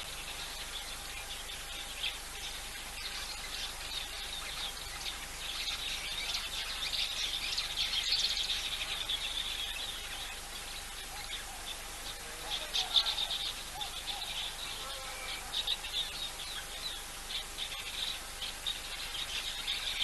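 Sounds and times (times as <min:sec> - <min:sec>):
outdoor ambience hiss: 0:00.0 - 0:20.0
small birds chirping: 0:00.0 - 0:20.0.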